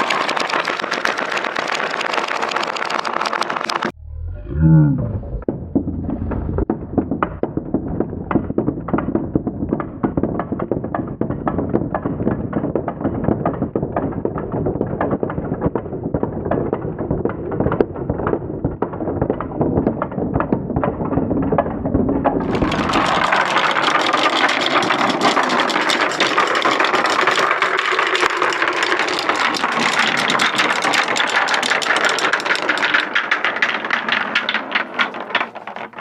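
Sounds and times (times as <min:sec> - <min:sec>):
marbles rattling down wooden ramps: 0:00.0 - 0:03.9, 0:05.4 - 0:36.0.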